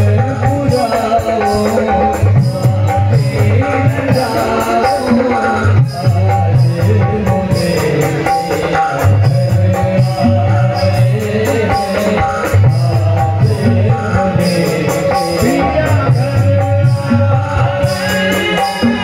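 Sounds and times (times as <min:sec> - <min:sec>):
devotional song melody over pa: 0:00.0 - 0:19.0
tabla and dholak drums: 0:00.0 - 0:19.0.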